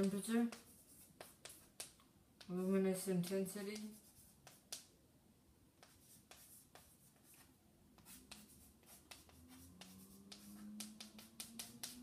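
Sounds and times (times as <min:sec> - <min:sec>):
chalk tapping and scratching: 0:00.0 - 0:04.9, 0:05.8 - 0:12.0.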